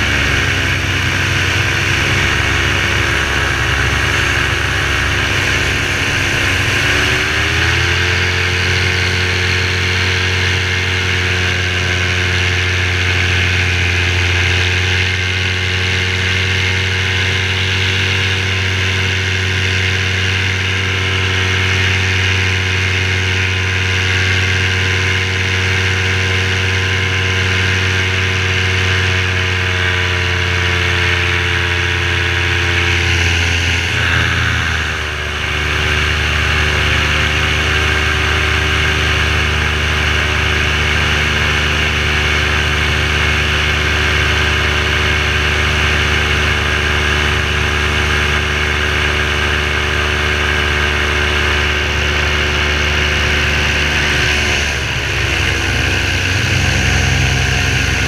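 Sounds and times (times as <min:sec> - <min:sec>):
paramotor engine running: 0:00.0 - 0:58.0.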